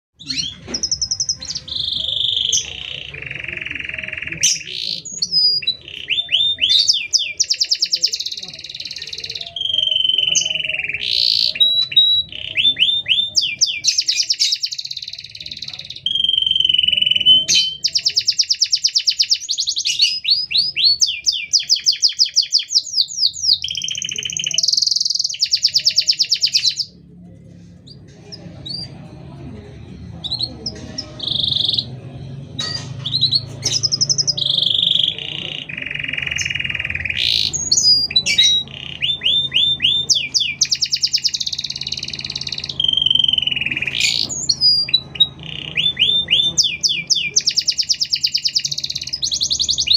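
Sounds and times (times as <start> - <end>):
canary singing: 0.2 - 49.9.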